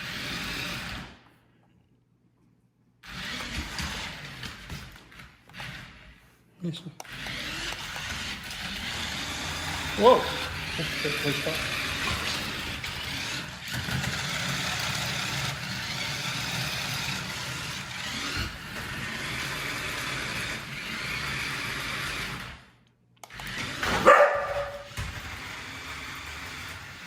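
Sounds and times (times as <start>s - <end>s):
toy car motor whirring: 0.0s - 1.2s, 3.0s - 6.0s, 7.0s - 27.0s.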